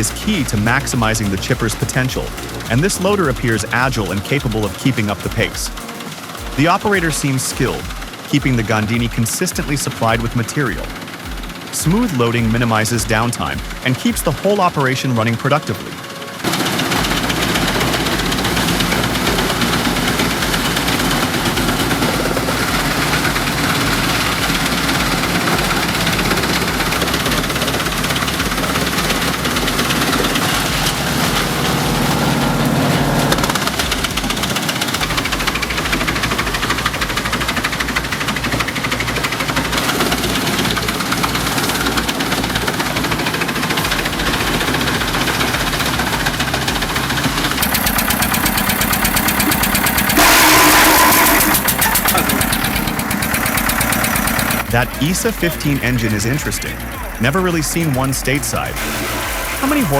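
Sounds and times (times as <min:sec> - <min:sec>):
wood chipper running: 0:00.0 - 0:59.9.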